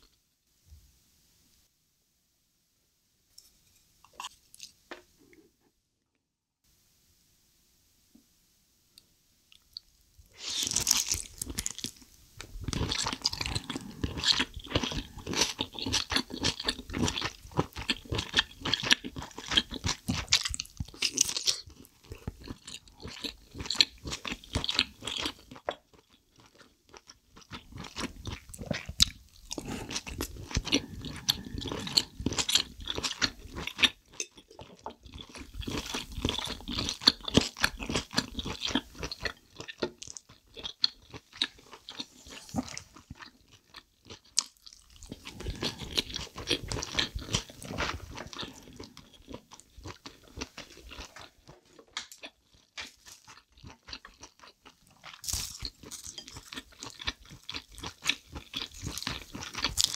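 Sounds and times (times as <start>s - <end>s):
crunchy wet chewing: 10.4s - 59.9s.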